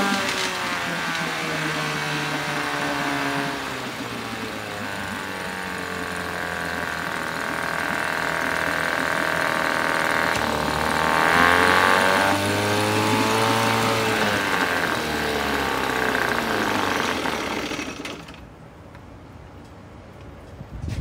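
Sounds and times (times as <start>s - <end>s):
outboard motor running: 0.0s - 18.5s.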